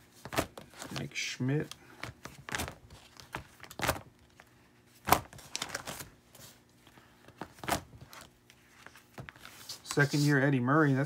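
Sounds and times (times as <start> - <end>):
plastic binder pages turning: 0.1 - 10.3.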